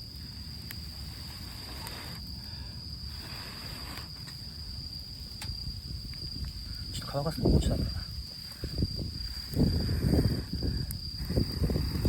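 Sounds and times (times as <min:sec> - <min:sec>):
high-pitched insect trill: 0:00.0 - 0:12.0.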